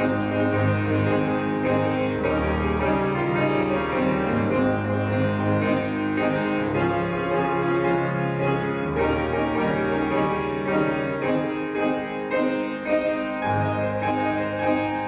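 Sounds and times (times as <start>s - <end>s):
solo piano chords: 0.0s - 15.0s.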